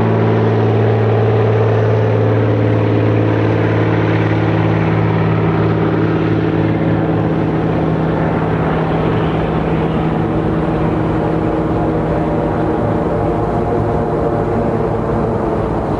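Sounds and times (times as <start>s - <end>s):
propeller plane engine drone: 0.0s - 15.9s.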